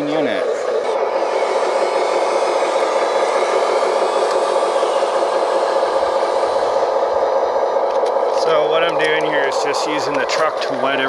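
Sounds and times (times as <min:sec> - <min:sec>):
small electric pump whining: 0:00.0 - 0:11.0.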